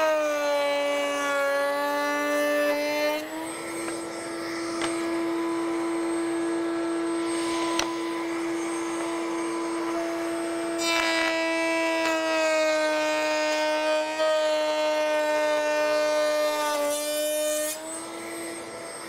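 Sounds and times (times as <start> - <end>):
router whine: 0.0 - 19.0.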